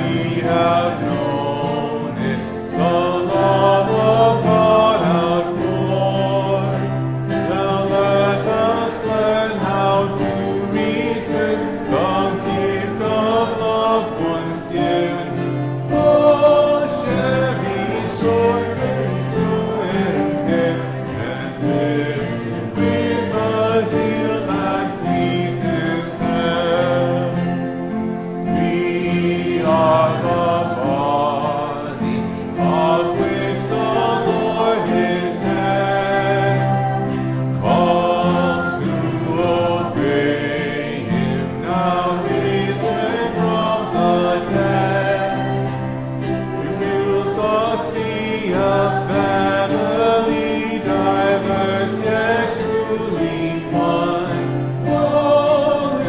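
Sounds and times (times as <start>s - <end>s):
congregation singing a hymn: 0.0s - 56.0s
instrumental accompaniment: 0.0s - 56.0s.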